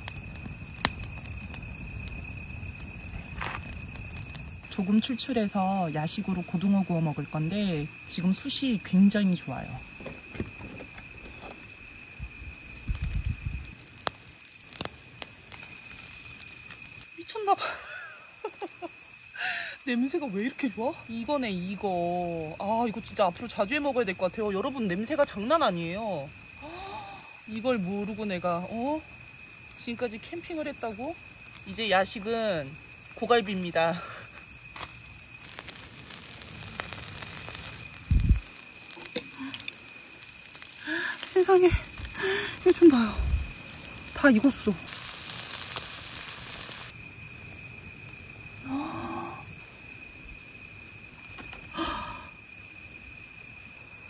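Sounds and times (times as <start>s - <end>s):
charcoal crackling and popping: 0.0s - 54.0s
high insect trill: 0.0s - 54.0s.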